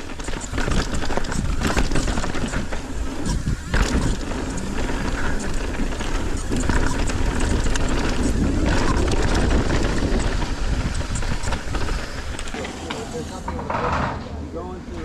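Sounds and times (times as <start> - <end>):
wind on microphone: 0.0 - 12.5
bike clicks and rattles: 0.0 - 15.0
bike tyre rumble: 0.0 - 15.0.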